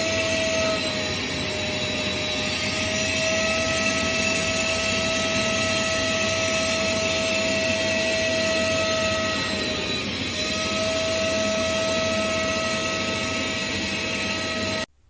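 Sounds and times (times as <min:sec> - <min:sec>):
vacuum cleaner motor whining: 0:00.0 - 0:14.9.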